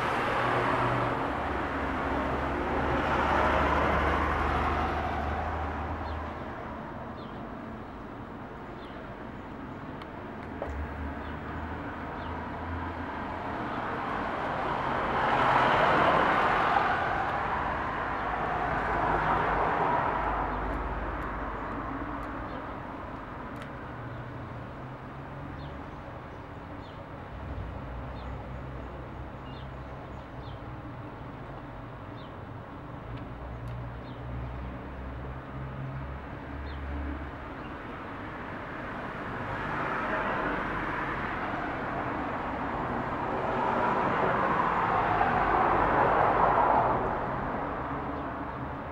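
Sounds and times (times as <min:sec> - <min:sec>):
passing traffic rumble: 0:00.0 - 0:48.9.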